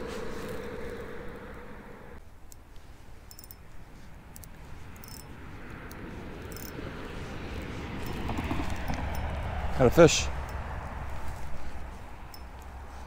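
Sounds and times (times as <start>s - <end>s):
low outdoor rumble: 0.0s - 13.0s
passing car hum: 0.0s - 13.0s.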